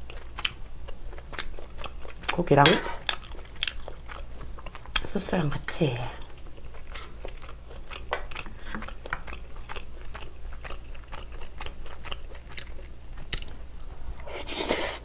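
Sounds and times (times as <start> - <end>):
wet chewing mouth sounds: 0.0 - 2.4, 3.0 - 5.1, 6.2 - 15.0.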